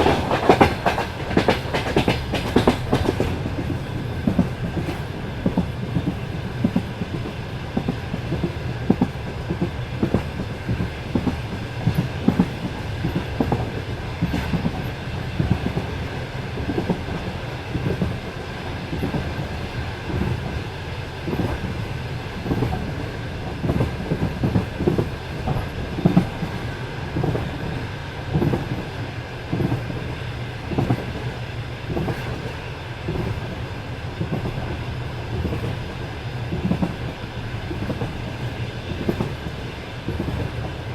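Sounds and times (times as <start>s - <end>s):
low train rumble: 0.0s - 40.9s
train wheels clacking: 0.0s - 40.9s.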